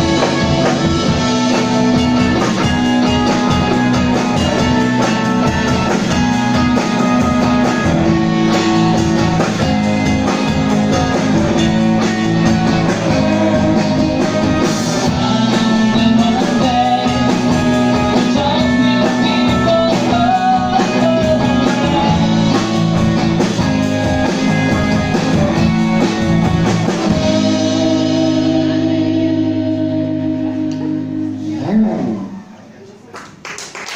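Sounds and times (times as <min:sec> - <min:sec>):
electric bass: 0:00.0 - 0:32.6
drums: 0:00.0 - 0:32.7
electric guitars: 0:00.0 - 0:32.7.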